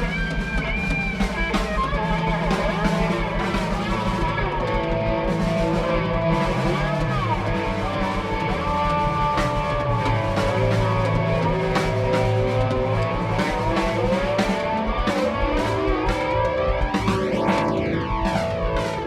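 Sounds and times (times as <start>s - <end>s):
bass and drums: 0.0s - 19.0s
guitar bending notes: 0.0s - 19.0s.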